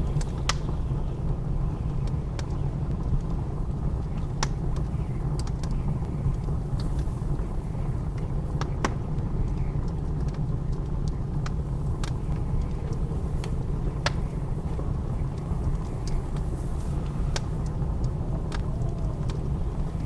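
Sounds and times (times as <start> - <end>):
low roar of blizzard wind: 0.0 - 20.0
wood fire crackling and popping: 0.0 - 20.0.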